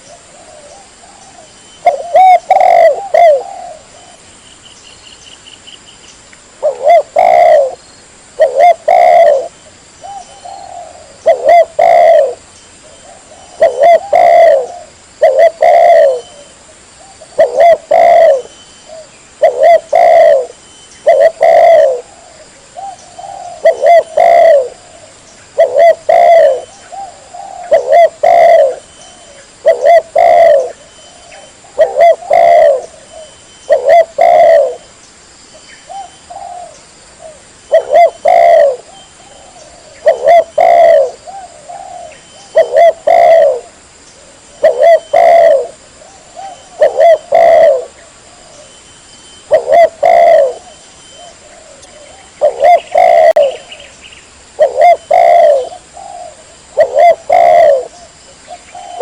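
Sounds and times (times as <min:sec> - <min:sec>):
dove cooing: 0:00.0 - 0:04.3, 0:06.6 - 0:07.8, 0:08.4 - 0:34.9, 0:35.9 - 0:48.8, 0:49.4 - 0:53.9, 0:54.5 - 0:59.0.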